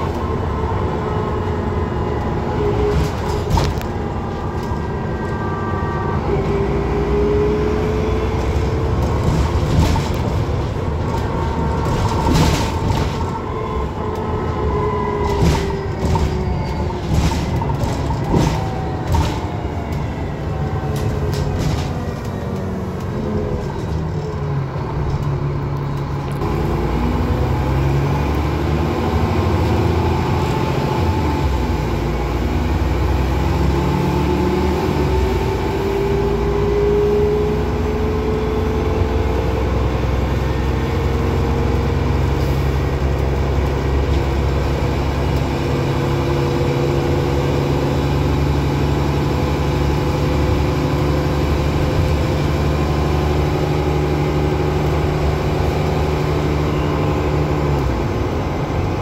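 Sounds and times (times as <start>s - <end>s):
bus diesel engine from inside: 0.0s - 59.0s.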